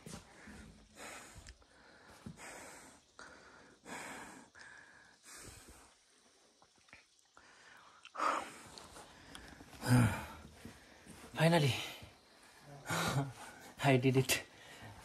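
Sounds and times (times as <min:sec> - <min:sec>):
person breathing hard: 0:00.0 - 0:06.2, 0:07.4 - 0:13.8, 0:14.5 - 0:15.0.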